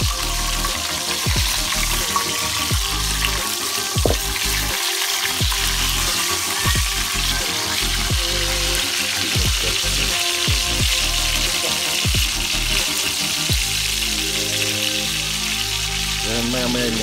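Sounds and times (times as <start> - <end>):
background music with bass sweeps: 0.0 - 17.0
fish frying in hot oil: 0.0 - 17.0.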